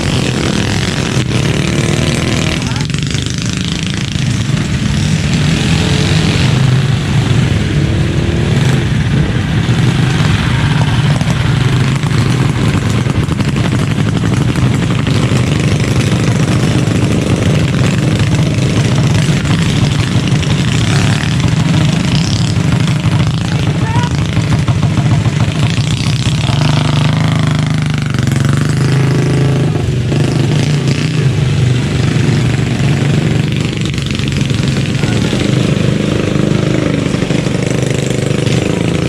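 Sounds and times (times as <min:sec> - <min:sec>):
mini bike engine running: 0:00.0 - 0:07.6, 0:08.6 - 0:39.0.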